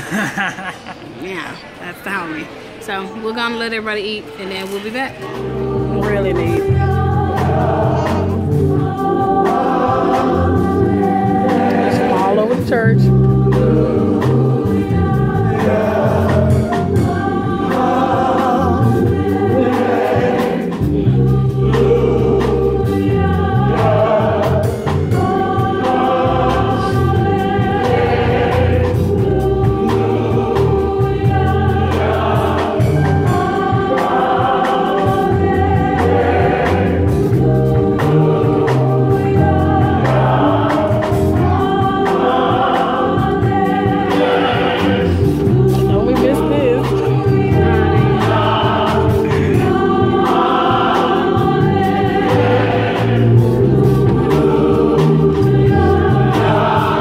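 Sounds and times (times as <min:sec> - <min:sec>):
gospel choir singing with band: 0:04.8 - 0:57.0.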